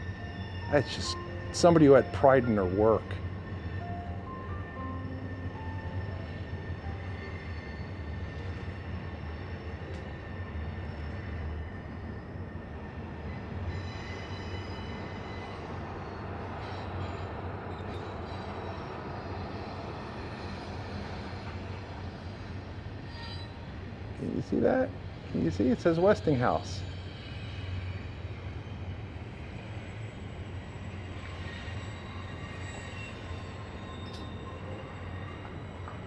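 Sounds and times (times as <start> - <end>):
train rumbling on tracks: 0.0 - 36.0.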